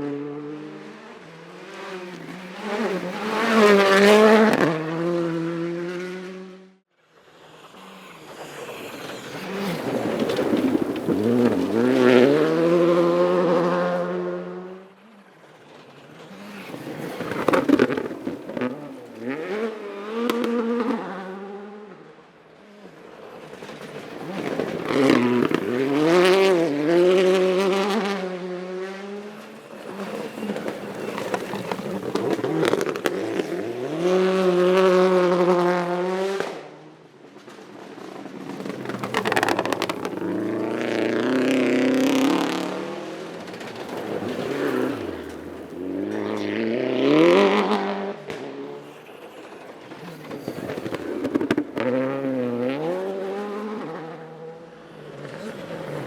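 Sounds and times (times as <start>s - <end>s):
rally cars revving past: 0.0s - 56.0s.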